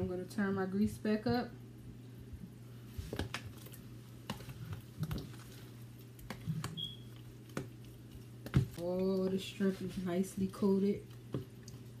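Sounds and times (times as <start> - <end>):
low steady hum: 0.0 - 12.0
soft squishing of batter: 0.1 - 12.0.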